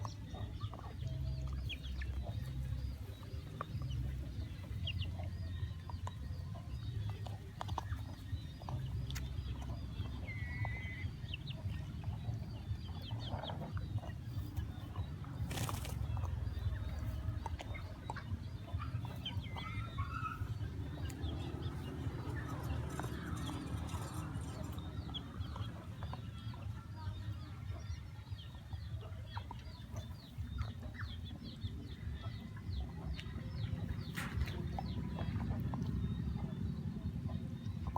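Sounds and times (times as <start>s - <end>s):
birds chirping: 0.0s - 37.9s
chickens clucking: 0.0s - 37.9s
steady low rumble: 0.0s - 37.9s.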